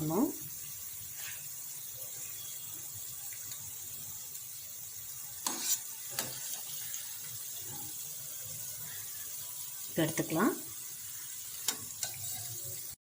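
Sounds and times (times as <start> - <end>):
fritters deep-frying in hot oil: 0.0 - 13.0.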